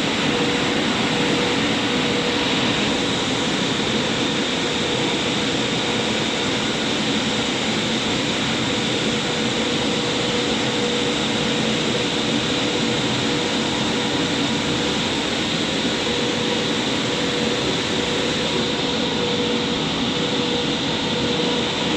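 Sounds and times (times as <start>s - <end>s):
constant hum: 0.0s - 21.9s
drying blowers rushing air: 0.0s - 21.9s.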